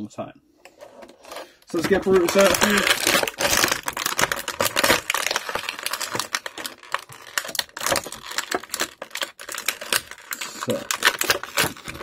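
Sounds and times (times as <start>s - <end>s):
plastic blister tray crackling: 1.0s - 12.0s.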